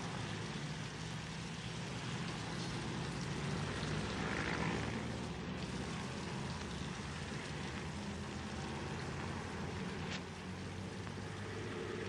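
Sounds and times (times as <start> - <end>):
even hiss: 2.0 - 12.0.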